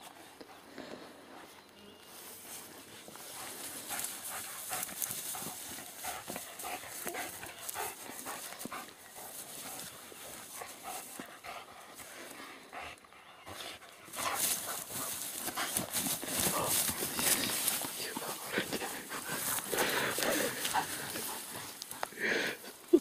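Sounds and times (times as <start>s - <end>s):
rustling: 1.4s - 12.6s, 13.5s - 23.0s.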